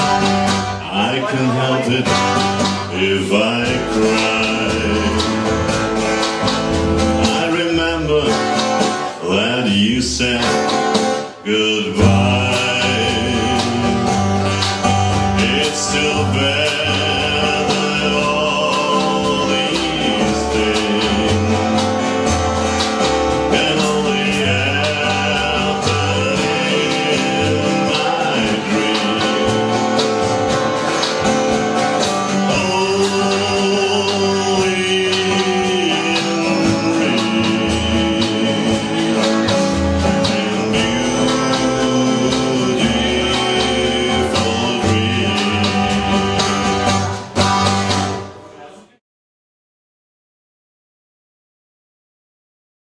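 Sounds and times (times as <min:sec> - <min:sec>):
live band playing: 0:00.0 - 0:48.7.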